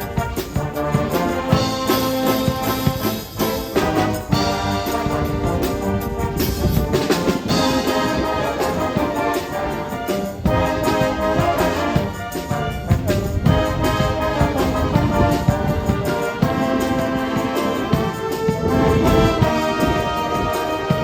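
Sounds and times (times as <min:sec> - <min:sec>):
brass-led orchestral music: 0:00.0 - 0:21.0.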